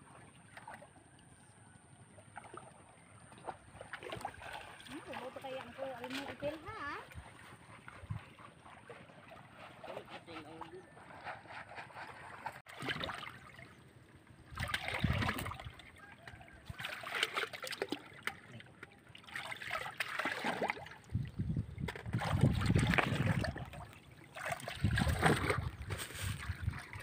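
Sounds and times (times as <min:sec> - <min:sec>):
water splashing and trickling: 0:00.0 - 0:27.0.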